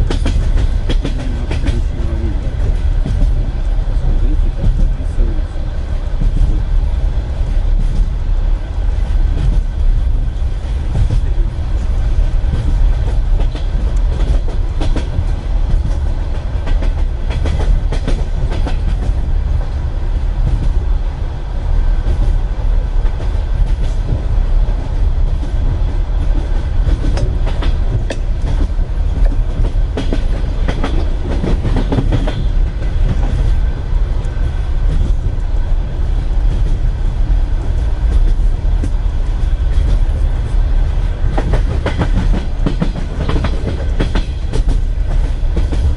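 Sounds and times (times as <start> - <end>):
low train rumble: 0.0 - 45.9
train wheels clicking over rail joints: 0.0 - 45.9.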